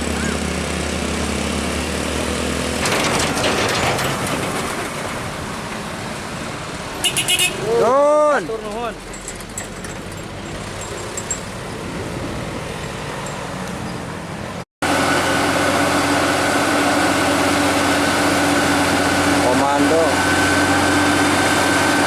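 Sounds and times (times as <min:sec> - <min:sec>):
road traffic rumble: 0:00.0 - 0:22.0
truck engine drone: 0:00.0 - 0:22.0.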